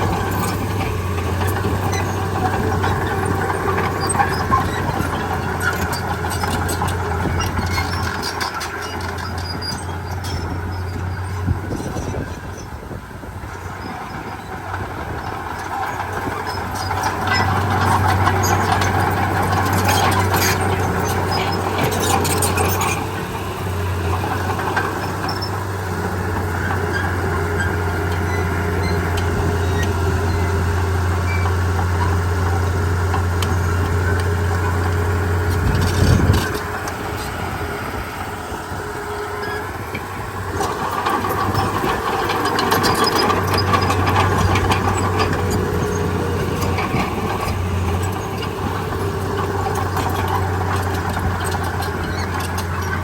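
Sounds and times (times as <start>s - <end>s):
clanks and scraping: 0.0s - 12.6s, 14.1s - 53.0s
diesel machinery engine drone: 0.0s - 53.0s.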